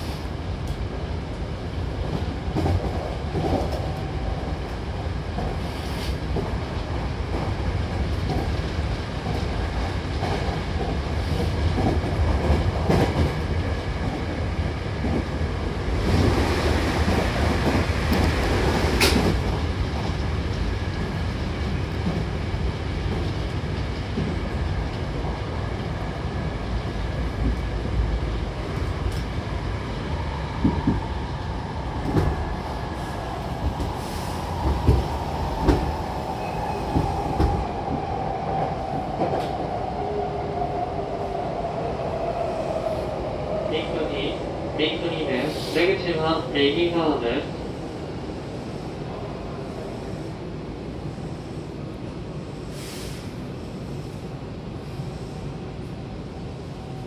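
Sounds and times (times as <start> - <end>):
train rolling rumble: 0.0 - 57.0.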